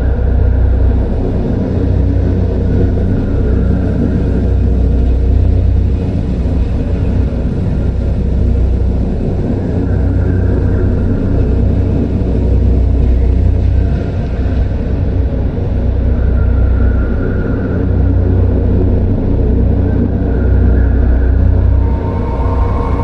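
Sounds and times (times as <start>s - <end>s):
deep drone: 0.0s - 23.0s
faint hazy high layer: 0.0s - 23.0s.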